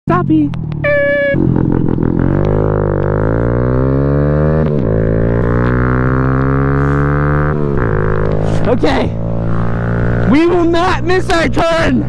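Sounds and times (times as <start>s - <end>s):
motorcycle engine accelerating: 0.1s - 12.0s.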